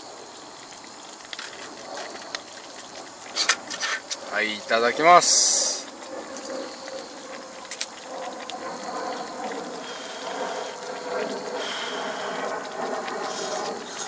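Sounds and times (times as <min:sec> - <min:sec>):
pot bubbling: 0:00.0 - 0:14.0.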